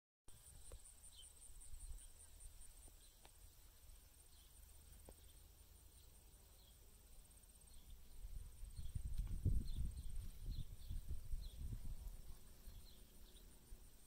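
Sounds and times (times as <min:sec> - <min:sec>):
insects chirping: 0:00.3 - 0:14.0.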